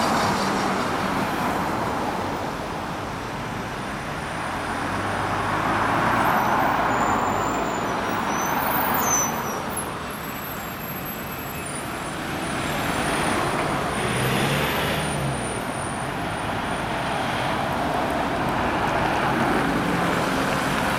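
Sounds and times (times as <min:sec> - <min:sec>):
cars and vans passing: 0:00.0 - 0:20.9
city bus passing: 0:00.0 - 0:20.9.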